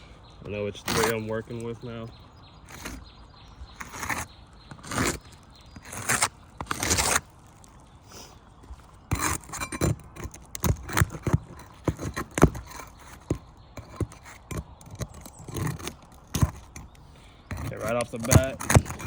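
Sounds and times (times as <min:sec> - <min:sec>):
shingles cracking: 0:00.4 - 0:01.9, 0:03.6 - 0:07.9, 0:08.6 - 0:19.0
shingles scraping: 0:00.4 - 0:19.0.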